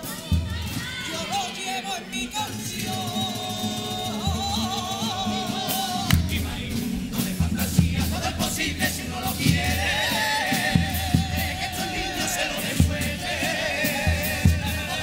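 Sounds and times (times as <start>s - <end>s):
steady drum beat: 0.0s - 1.5s, 2.4s - 15.0s
choir singing in harmony: 0.0s - 15.0s
guitars: 0.0s - 15.0s.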